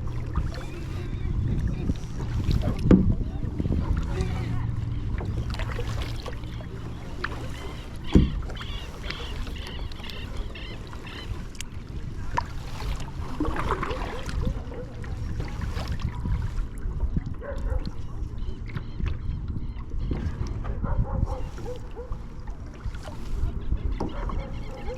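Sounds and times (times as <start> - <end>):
water lapping and splashing: 0.0 - 24.9.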